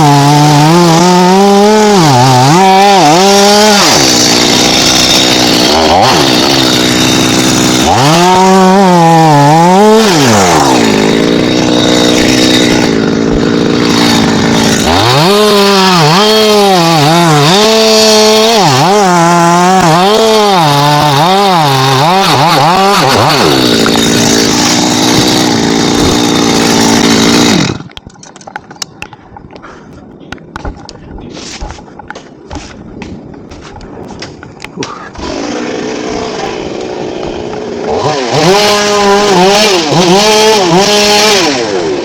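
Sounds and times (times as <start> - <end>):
chainsaw revving: 0.0 - 28.0, 35.1 - 42.0.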